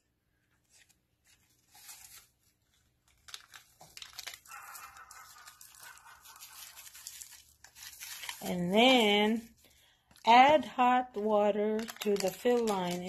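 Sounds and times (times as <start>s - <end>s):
foil pouch crinkling and tearing: 0.8s - 10.3s, 11.1s - 13.0s.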